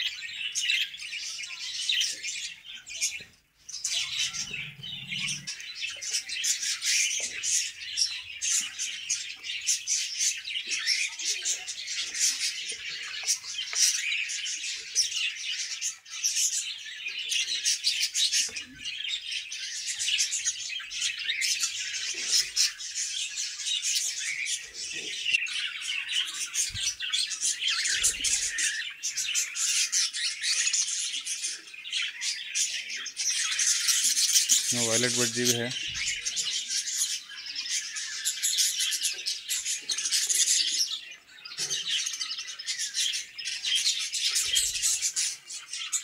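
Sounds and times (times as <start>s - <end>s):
budgerigars chirping: 0.0s - 46.0s.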